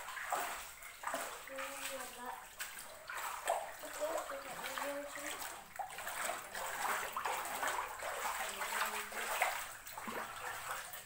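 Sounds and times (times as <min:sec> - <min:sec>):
feet splashing through water: 0:00.0 - 0:11.0.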